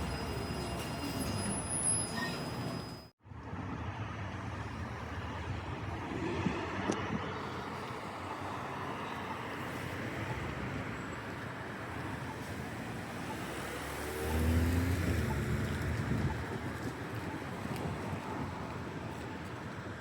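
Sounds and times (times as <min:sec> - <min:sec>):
vehicle rumble: 0:02.4 - 0:20.0.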